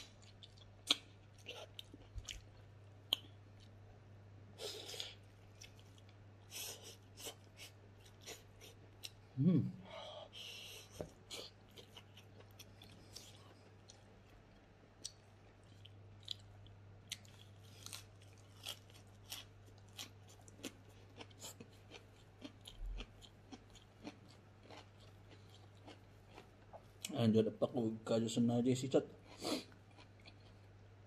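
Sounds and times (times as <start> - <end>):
person chewing leafy greens: 0.0 - 3.8, 4.6 - 9.3, 10.5 - 27.2, 29.2 - 30.9.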